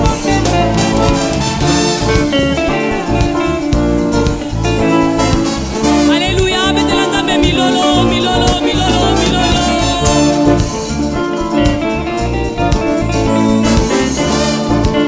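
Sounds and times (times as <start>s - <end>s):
upbeat gospel band music: 0.0s - 15.0s.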